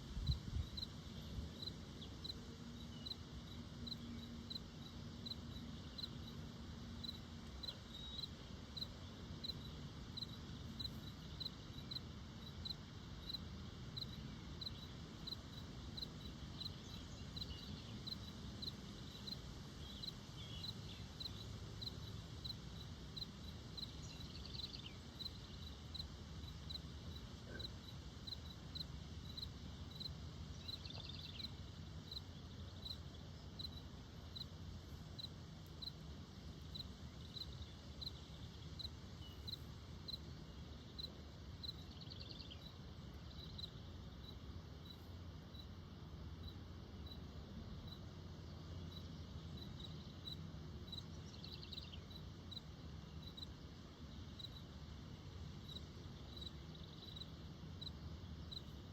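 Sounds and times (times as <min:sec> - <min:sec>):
cricket chirping: 0:00.0 - 0:58.9.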